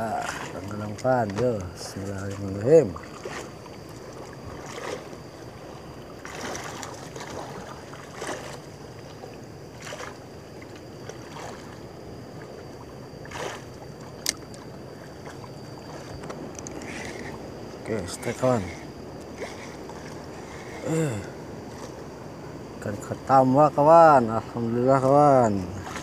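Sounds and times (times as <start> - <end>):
soft splashes: 0.0 - 22.1, 25.4 - 26.0
water lapping against boat hull: 0.0 - 23.4, 24.1 - 26.0.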